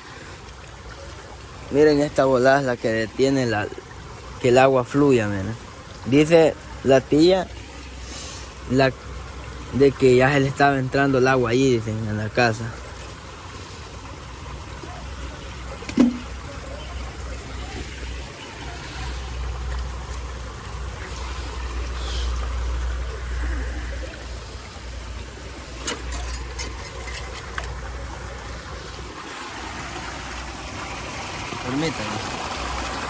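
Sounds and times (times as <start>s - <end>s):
floodwater trickling through drain: 0.0s - 33.0s.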